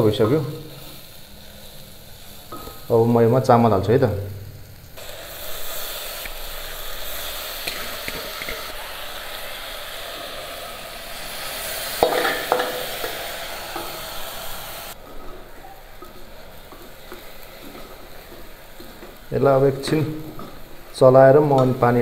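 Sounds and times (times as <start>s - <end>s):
rice sizzling in hot ghee: 0.0s - 22.0s.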